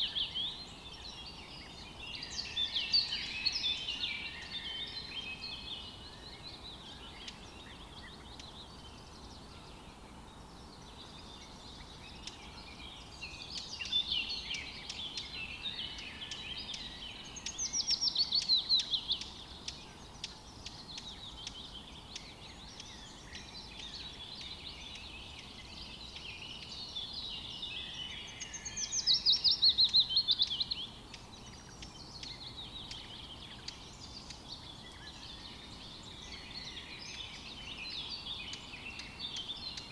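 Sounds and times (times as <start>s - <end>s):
low background hiss: 0.0s - 39.9s
songbirds singing and chirping: 0.0s - 39.9s.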